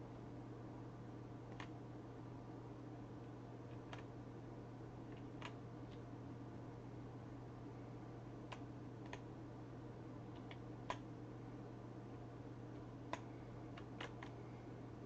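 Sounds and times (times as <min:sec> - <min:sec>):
faint low electrical hum: 0:00.0 - 0:15.0.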